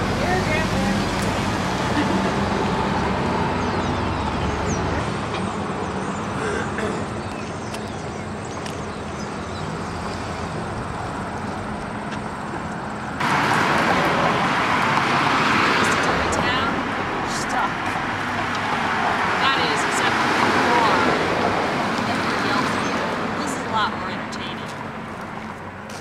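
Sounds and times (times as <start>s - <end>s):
outdoor traffic ambience: 0.0s - 26.0s.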